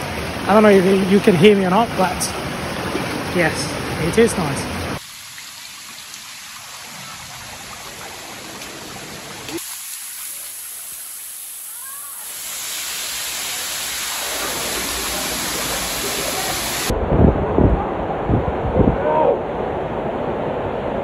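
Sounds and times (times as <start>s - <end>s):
mountain stream rushing: 0.0s - 16.9s.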